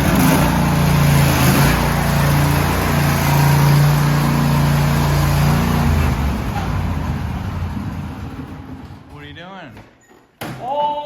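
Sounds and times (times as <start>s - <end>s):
lawn tractor engine running: 0.0s - 9.3s.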